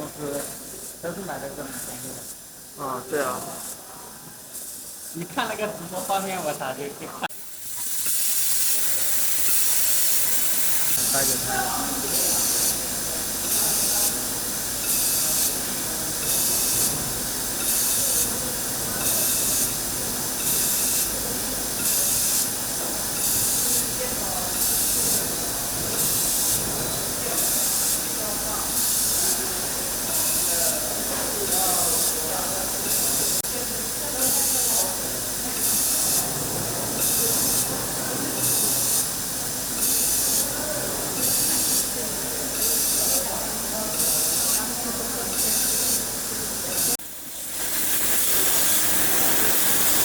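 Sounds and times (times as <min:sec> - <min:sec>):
laser welding hiss: 0:00.0 - 0:50.0
steady machine noise: 0:07.3 - 0:43.2, 0:43.9 - 0:50.0.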